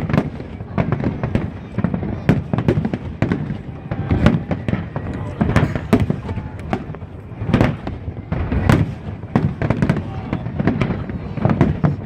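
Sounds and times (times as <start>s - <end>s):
fireworks bangs with echoes: 0.0s - 12.0s.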